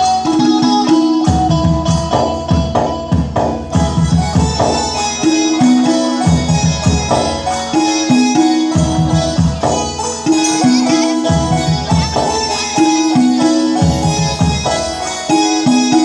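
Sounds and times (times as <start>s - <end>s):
hand drums beating: 0.0s - 16.0s
instrumental melody line: 0.0s - 16.0s.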